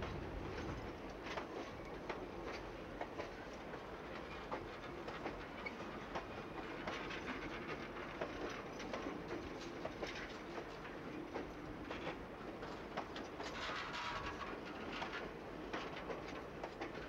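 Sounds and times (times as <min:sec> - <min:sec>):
train rumble: 0:00.0 - 0:17.0
train wheels clicking over rail joints: 0:00.0 - 0:17.0.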